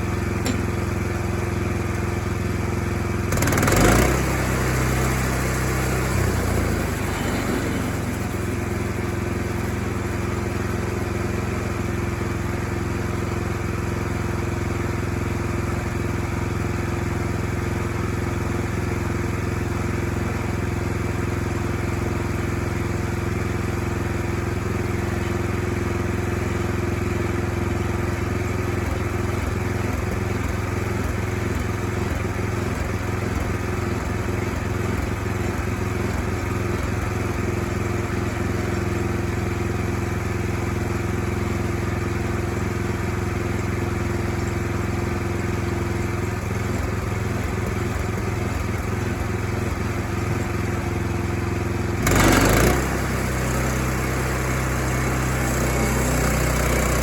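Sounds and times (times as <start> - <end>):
gasoline engine running: 0.0 - 57.0.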